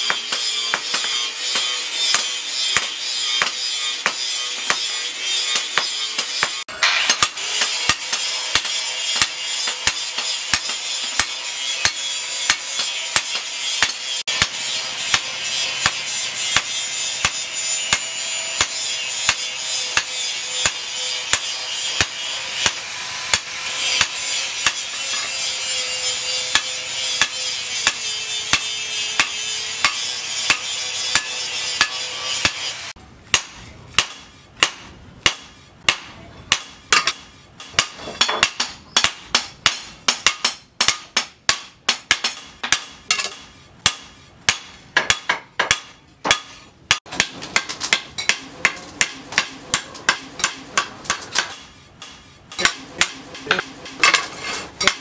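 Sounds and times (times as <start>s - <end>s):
hammer striking hot steel on anvil: 0.0s - 55.0s.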